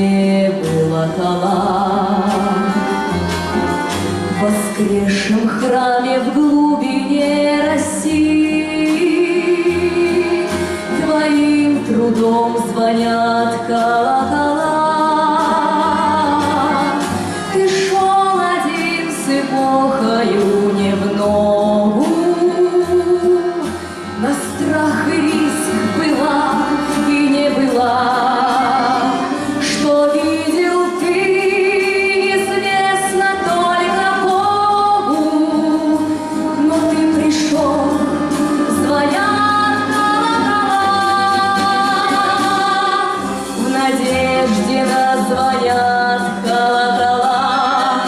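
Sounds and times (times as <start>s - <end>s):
instrumental accompaniment with bass: 0.0s - 48.0s
woman singing operatically: 0.0s - 48.0s.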